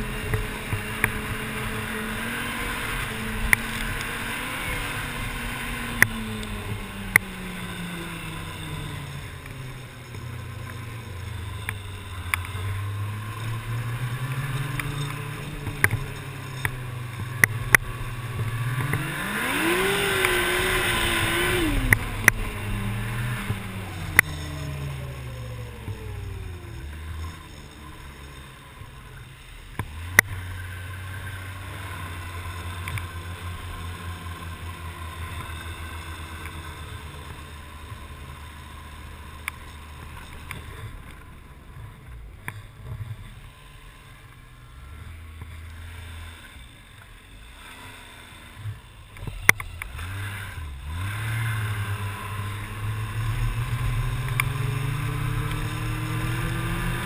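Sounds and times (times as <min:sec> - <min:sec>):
snowmobile engine running: 0:00.0 - 0:57.0
track and wind noise: 0:00.0 - 0:57.0.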